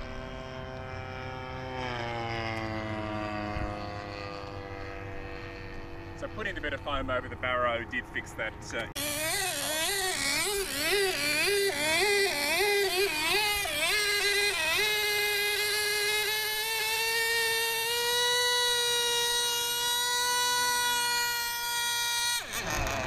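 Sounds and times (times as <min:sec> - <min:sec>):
model aircraft engine buzzing: 0:00.0 - 0:23.0.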